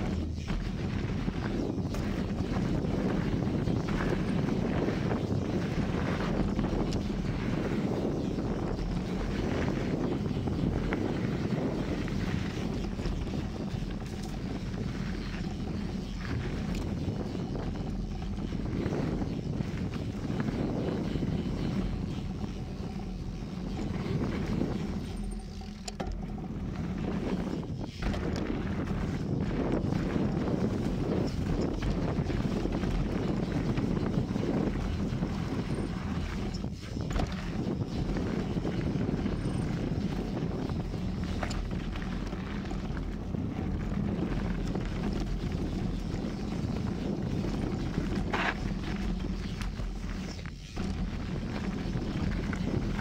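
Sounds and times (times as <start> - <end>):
bike tyres rumbling over dirt: 0.0 - 53.0
wind buffeting microphone: 0.0 - 53.0.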